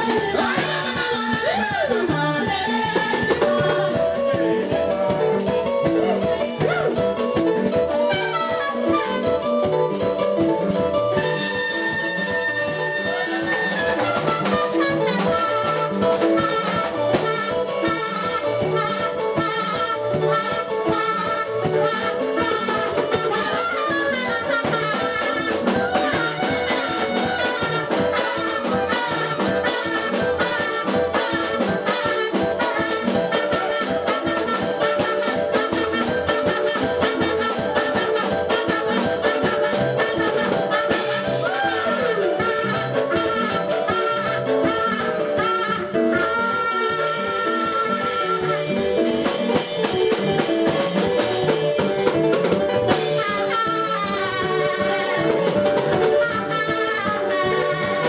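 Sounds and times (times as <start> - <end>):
drum kit beat: 0.0 - 58.0
upbeat band music: 0.0 - 58.0
brass lead lines: 2.5 - 58.0.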